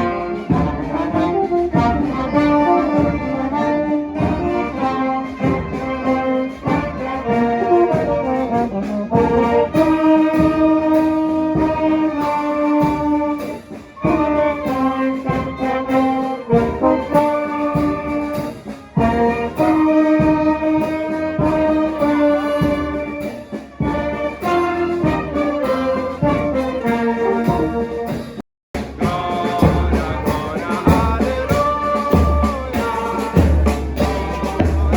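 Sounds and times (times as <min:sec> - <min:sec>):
brass band playing: 0:00.0 - 0:34.9
drum beat: 0:00.0 - 0:34.9.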